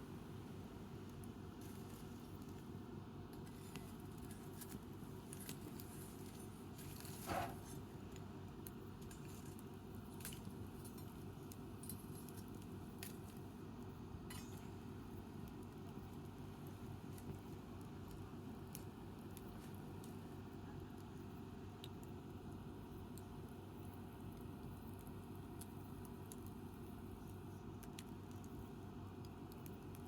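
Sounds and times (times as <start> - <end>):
low background noise: 0.0 - 30.0
wood fire crackling: 0.1 - 30.0.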